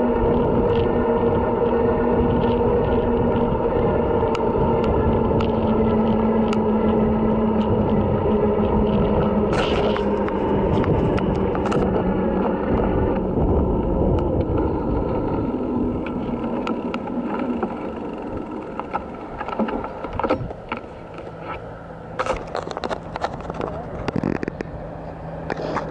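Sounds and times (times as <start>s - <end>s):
electric motor whine: 0.0s - 25.9s
wind rumble on microphone: 0.0s - 25.9s.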